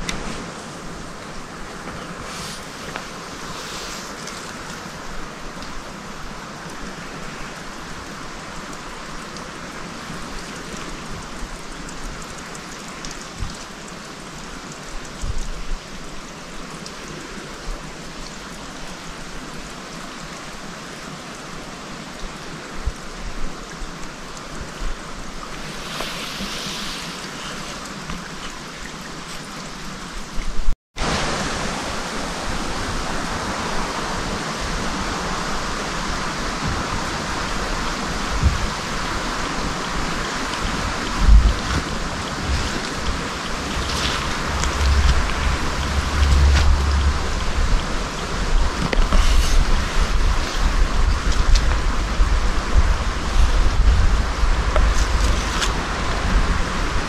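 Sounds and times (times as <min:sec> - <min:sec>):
rushing running water: 0:00.0 - 0:57.0.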